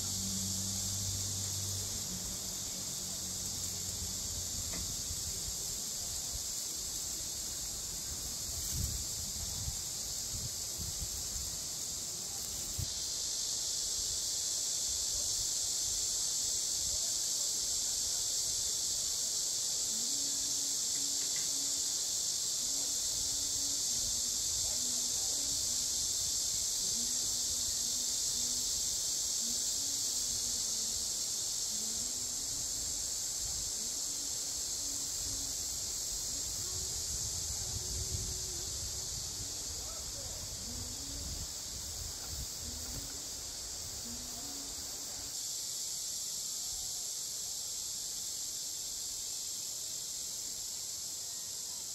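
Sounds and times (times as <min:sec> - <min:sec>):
cicadas droning: 0:00.0 - 0:51.9.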